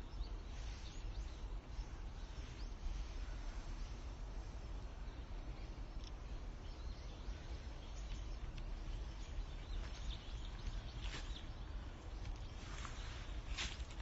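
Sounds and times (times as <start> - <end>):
faint bird chirps: 0.0 - 14.0
rustle: 0.0 - 14.0
steady low rumble: 0.0 - 14.0.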